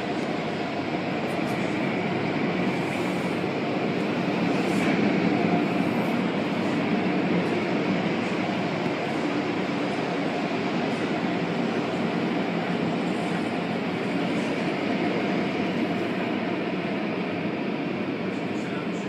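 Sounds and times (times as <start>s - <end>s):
faint machine whine: 0.0s - 19.0s.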